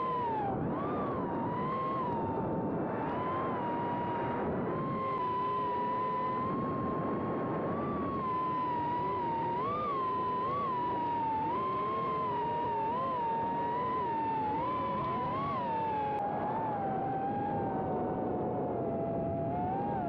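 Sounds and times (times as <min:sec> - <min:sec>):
electric motor whine: 0:00.0 - 0:20.0.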